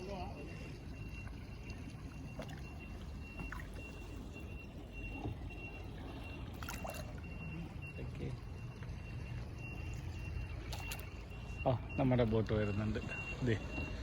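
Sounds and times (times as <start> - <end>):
water lapping at shore: 0.0 - 14.0.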